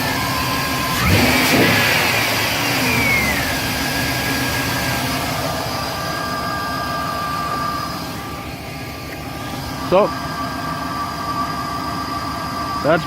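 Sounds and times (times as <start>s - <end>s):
truck engine idling and revving: 0.0s - 13.0s.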